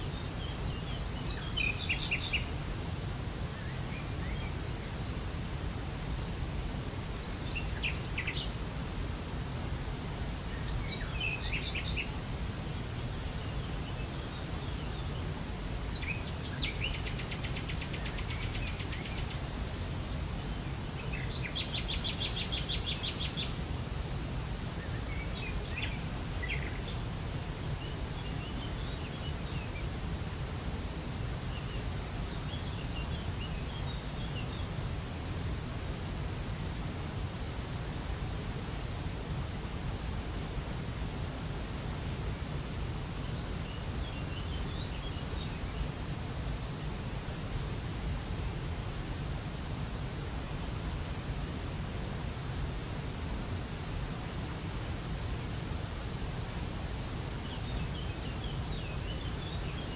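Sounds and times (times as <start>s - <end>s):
songbirds chirping: 0.0s - 50.0s, 51.8s - 59.9s.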